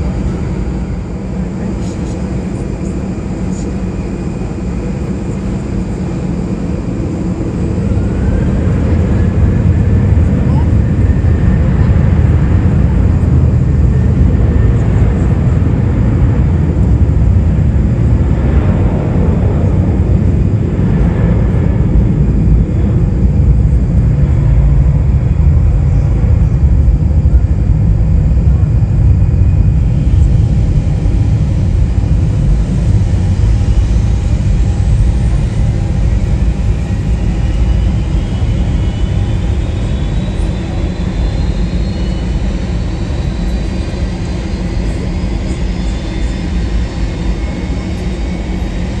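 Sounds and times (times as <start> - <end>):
jet engine rising whine: 0.0 - 49.0
jet engines rumbling: 0.0 - 49.0.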